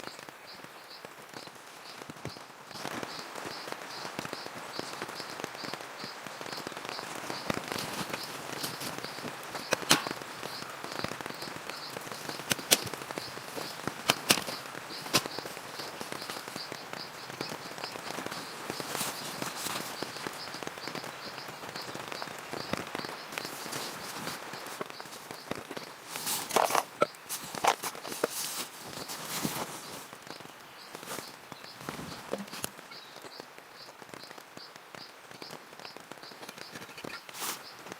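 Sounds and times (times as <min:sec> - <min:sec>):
rain hiss: 0:00.0 - 0:37.9
sharp cracks: 0:01.3 - 0:37.9.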